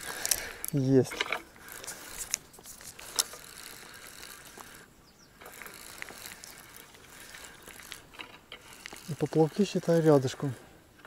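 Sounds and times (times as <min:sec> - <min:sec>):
fishing reel clicks: 0:00.0 - 0:10.5
fishing reel whirring: 0:00.0 - 0:10.6.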